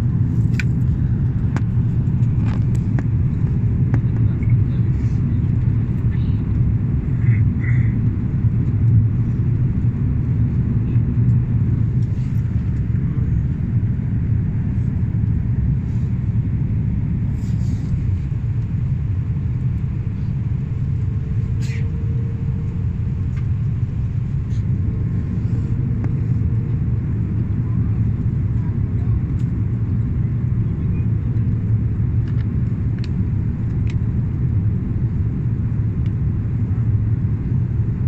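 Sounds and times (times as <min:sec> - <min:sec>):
jet engines rumbling: 0:00.0 - 0:38.0
rushing air in cabin: 0:00.0 - 0:38.0.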